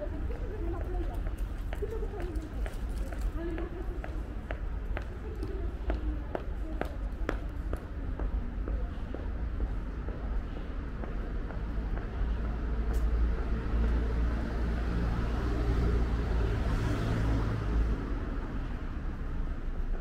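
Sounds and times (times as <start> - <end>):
street noise: 0.0 - 20.0.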